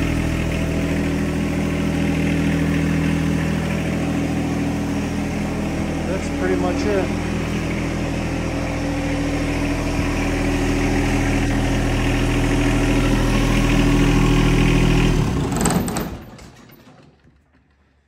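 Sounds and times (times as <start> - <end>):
tractor diesel engine idling: 0.0 - 16.6.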